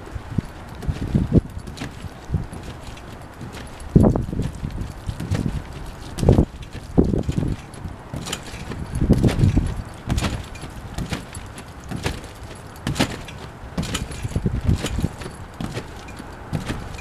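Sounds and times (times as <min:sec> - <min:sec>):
trampoline mat thumping: 0:00.3 - 0:17.0
metal springs jangling: 0:00.4 - 0:17.0.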